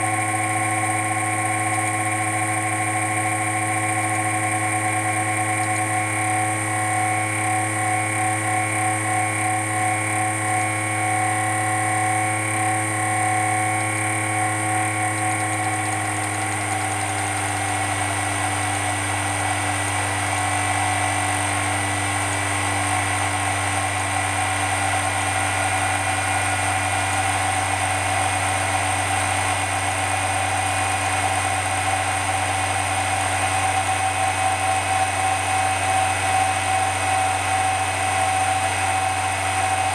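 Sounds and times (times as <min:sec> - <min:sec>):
blower fan whining: 0:00.0 - 0:39.9.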